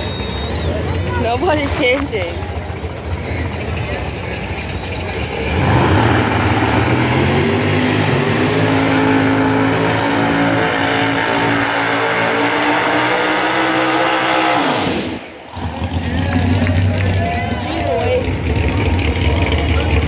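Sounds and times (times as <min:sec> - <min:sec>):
drag racing cars at full throttle: 0:00.0 - 0:20.0.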